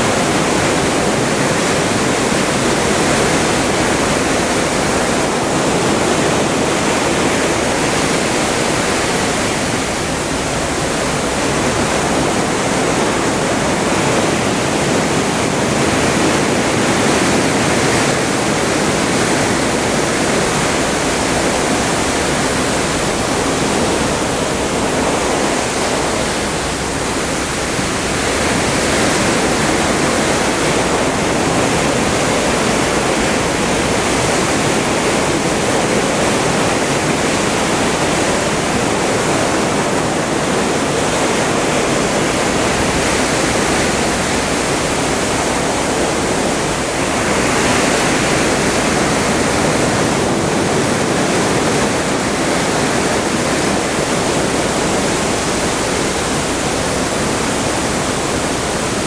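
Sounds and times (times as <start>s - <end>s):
sea water rushing past a ship: 0.0s - 59.0s.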